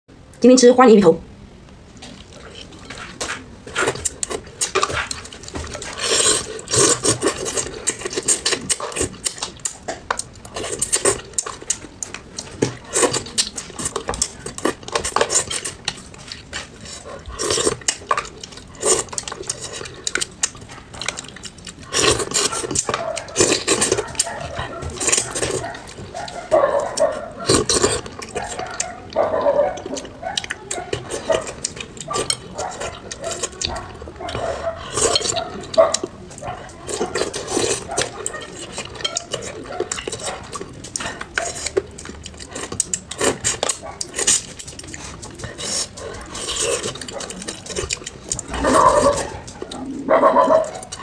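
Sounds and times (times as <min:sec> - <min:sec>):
chewing and sucking mouth sounds: 0:01.9 - 0:51.0.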